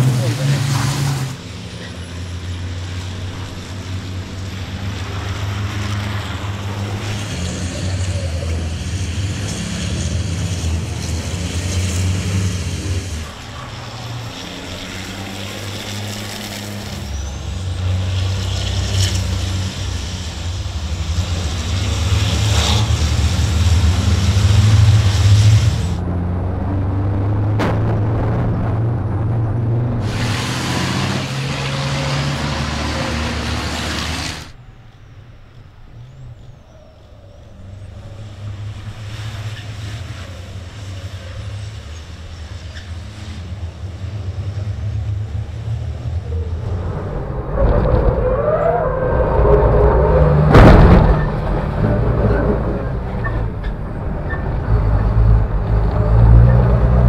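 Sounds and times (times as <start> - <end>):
diesel truck engines racing: 0.0 - 34.7, 35.3 - 57.0.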